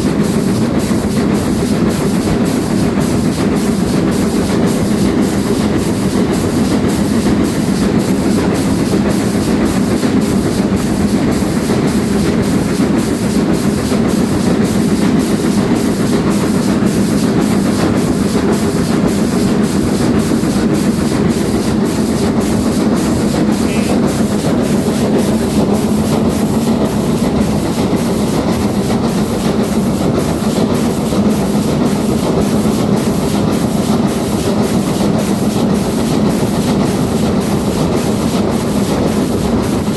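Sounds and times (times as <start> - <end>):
steam train rumbling with regular beat: 0.0 - 39.9.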